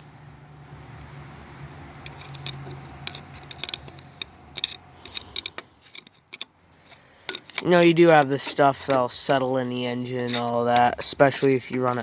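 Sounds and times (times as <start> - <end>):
small parts clicking and rattling: 1.9 - 12.0.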